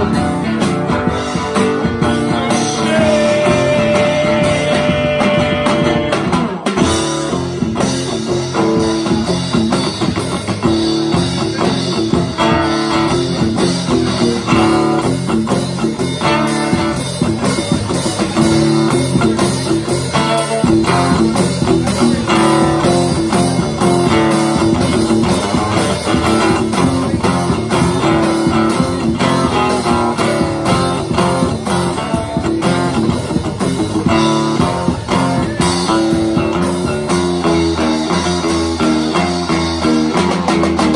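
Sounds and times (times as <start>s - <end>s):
drums and cymbals: 0.0s - 40.9s
strummed acoustic guitar: 0.0s - 40.9s.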